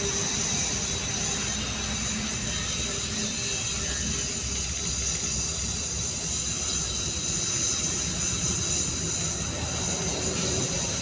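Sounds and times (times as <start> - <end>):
welding torch flame hissing: 0.0 - 11.0.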